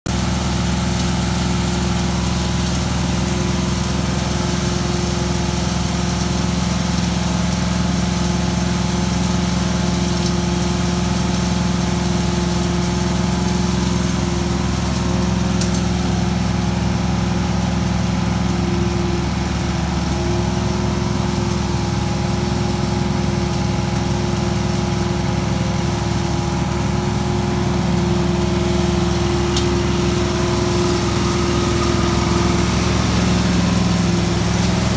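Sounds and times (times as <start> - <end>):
engine-driven vacuum running: 0.1 - 34.9.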